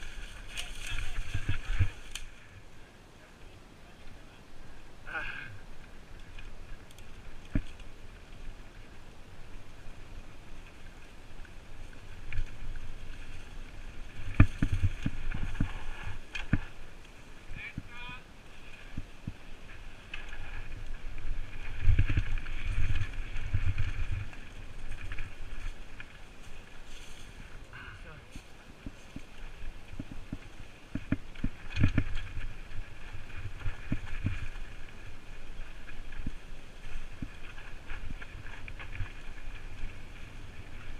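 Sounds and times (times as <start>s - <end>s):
bike tyres rumbling on dirt: 0.0s - 2.5s, 4.7s - 27.6s, 28.4s - 40.9s.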